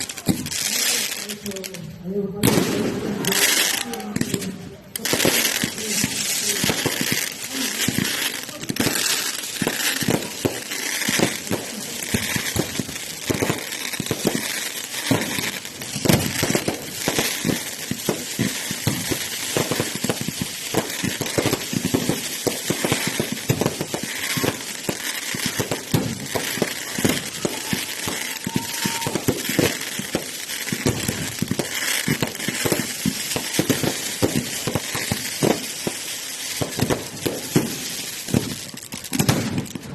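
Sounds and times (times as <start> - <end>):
fireworks crackling: 0.0 - 39.9.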